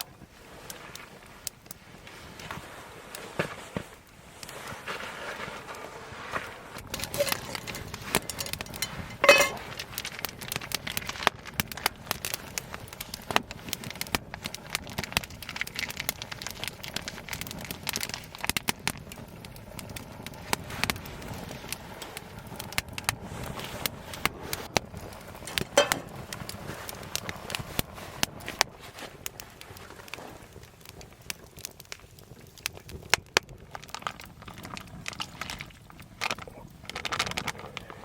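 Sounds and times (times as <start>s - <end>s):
loud fire pops: 0.0s - 38.0s
wood fire crackling: 0.0s - 38.0s.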